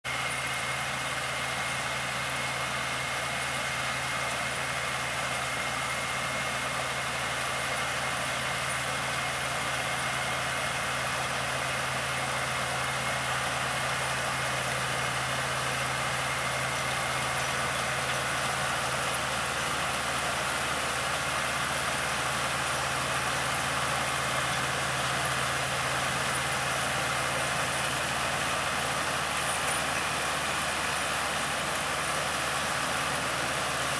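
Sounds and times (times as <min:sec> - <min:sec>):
tractor engine running: 0:00.0 - 0:33.9
truck engine: 0:00.0 - 0:33.9
constant high whine: 0:00.1 - 0:33.9
harvester machinery noise: 0:00.1 - 0:33.9.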